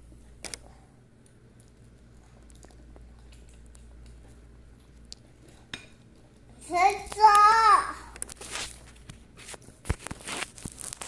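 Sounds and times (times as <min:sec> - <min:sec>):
chewing pizza: 0:00.0 - 0:11.0
low steady hum: 0:00.0 - 0:11.0.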